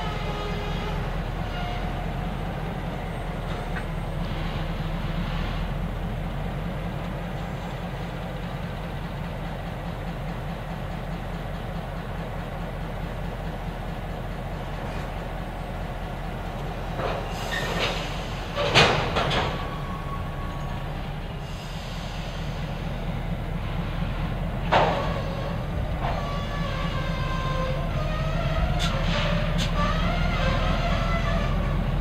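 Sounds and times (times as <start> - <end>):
diesel locomotive rumbling: 0.0 - 32.0.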